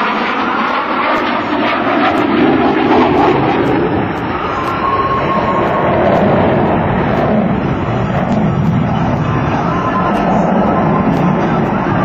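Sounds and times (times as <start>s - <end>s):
jet engines roaring: 0.0s - 12.0s
thin steady whine: 0.0s - 12.0s.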